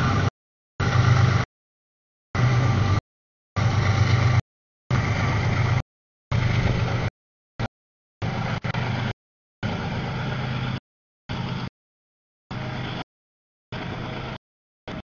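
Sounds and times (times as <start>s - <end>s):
diesel locomotive engine humming: 0.0s - 1.5s, 2.4s - 3.0s, 3.6s - 11.7s, 12.5s - 13.1s, 13.7s - 15.0s.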